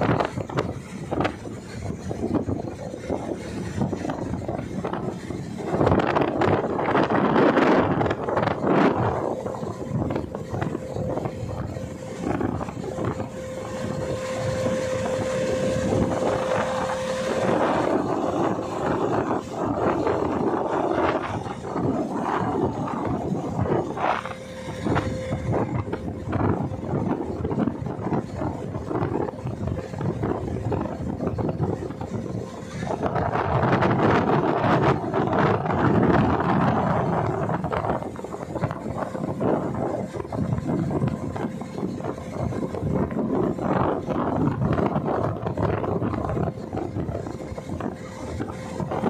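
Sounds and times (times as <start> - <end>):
boat running noise: 0.0 - 49.0
faint engine hum: 0.0 - 49.0
water rushing and slapping: 0.0 - 49.0
wind buffeting microphone: 0.0 - 49.0.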